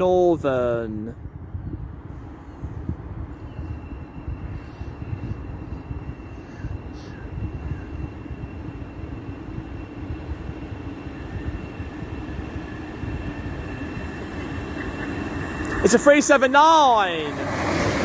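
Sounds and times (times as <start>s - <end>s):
train wheels rumbling on rails: 2.2s - 18.0s.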